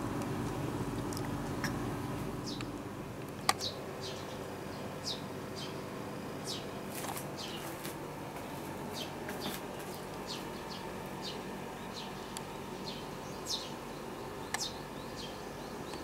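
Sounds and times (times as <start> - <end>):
low background hum: 0.0 - 16.0
small birds chirping: 0.2 - 16.0.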